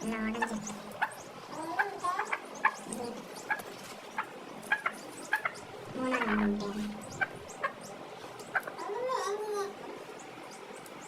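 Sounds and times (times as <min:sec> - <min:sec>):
chickens clucking and peeping: 0:00.0 - 0:11.0.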